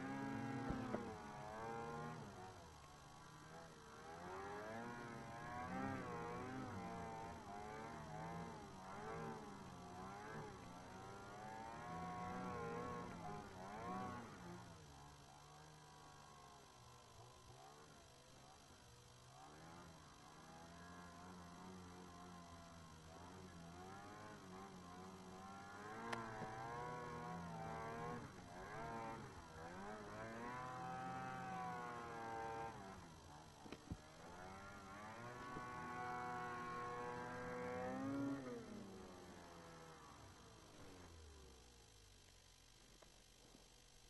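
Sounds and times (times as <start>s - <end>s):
snowmobile engine revving: 0.0s - 2.6s, 3.4s - 14.7s, 19.4s - 41.1s.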